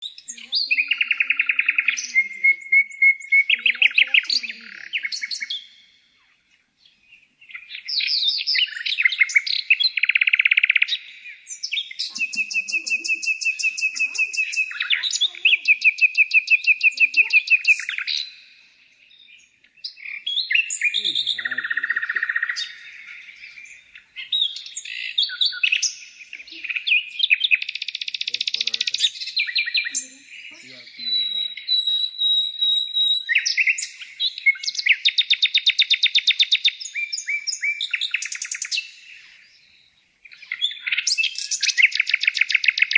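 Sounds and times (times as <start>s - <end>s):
bird singing chirps and trills: 0.0s - 42.9s.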